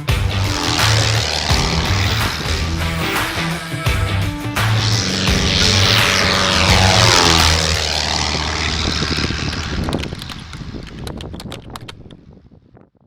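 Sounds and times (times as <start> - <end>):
aircraft engine drone passing: 0.0 - 12.1.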